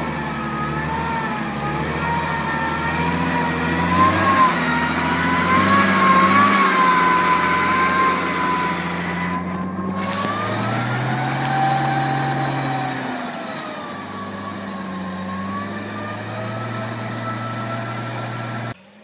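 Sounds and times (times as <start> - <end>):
truck engine running at low speed: 0.0 - 19.0.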